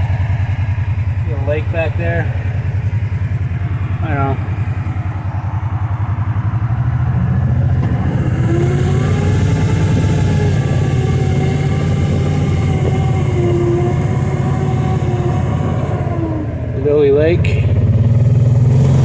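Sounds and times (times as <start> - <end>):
utility vehicle engine running: 0.0 - 19.0.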